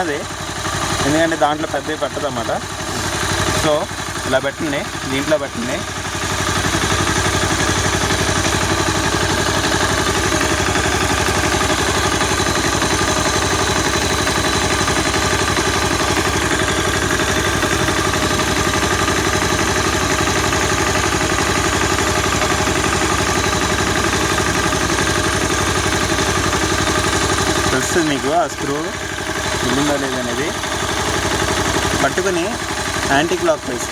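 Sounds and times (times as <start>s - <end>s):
light engine clatter: 0.0s - 33.9s
motorcycle engine idling: 0.0s - 33.9s.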